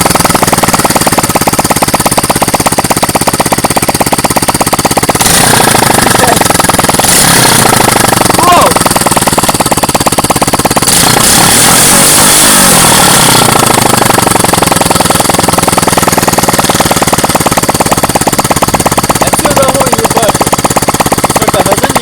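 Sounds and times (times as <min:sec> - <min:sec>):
motorcycle engine popping exhaust: 0:00.0 - 0:22.0.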